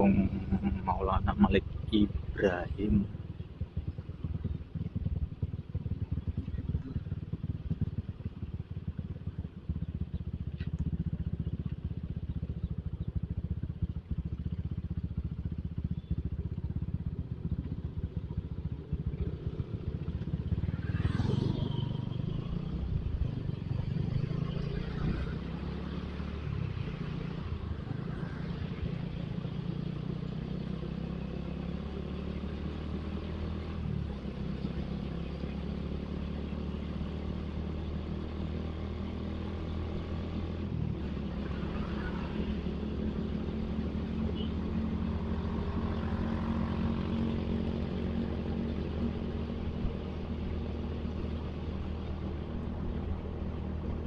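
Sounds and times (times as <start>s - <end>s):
motorcycle engine running: 0.0s - 54.0s
traffic rumble: 0.0s - 54.0s.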